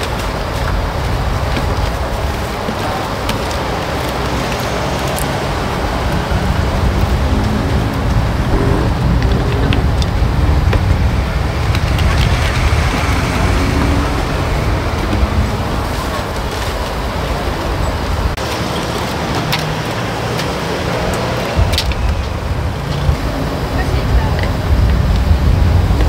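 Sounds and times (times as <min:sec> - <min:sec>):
low traffic rumble: 0:00.0 - 0:26.0
indistinct voices: 0:02.4 - 0:24.8.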